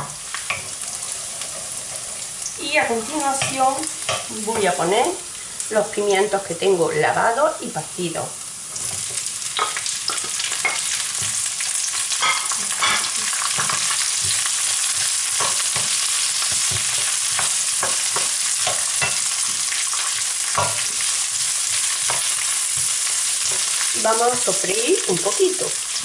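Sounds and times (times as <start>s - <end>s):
peppers sizzling in hot oil: 0.0s - 26.0s.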